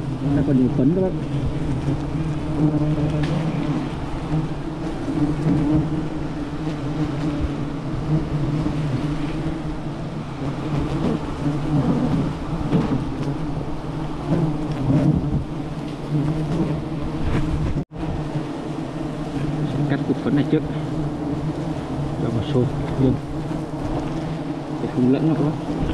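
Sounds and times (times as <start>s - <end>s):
bees buzzing: 0.0s - 25.9s.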